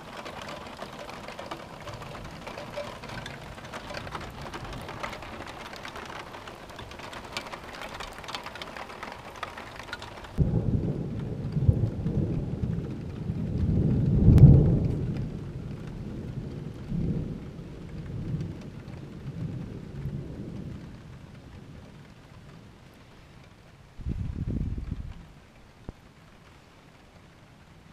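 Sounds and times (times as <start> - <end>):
thunder rolling: 0.0 - 22.7
heavy rain hissing and pattering: 0.0 - 27.9.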